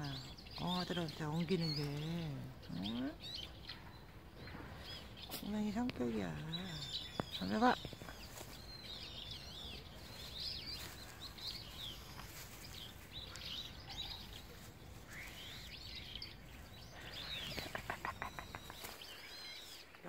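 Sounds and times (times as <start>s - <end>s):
outdoor background noise: 0.0s - 20.0s
small birds chirping and twittering: 0.0s - 20.0s.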